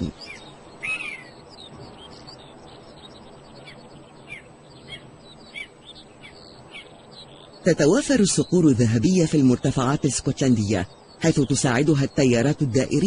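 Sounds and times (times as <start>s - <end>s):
birds chirping: 0.0s - 13.0s
faint outdoor background: 0.0s - 13.0s.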